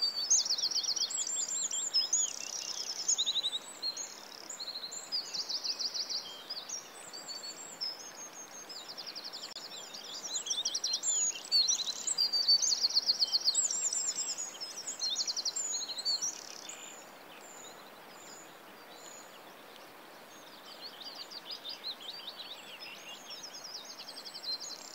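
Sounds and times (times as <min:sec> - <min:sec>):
soft steady hiss: 0:00.0 - 0:24.9.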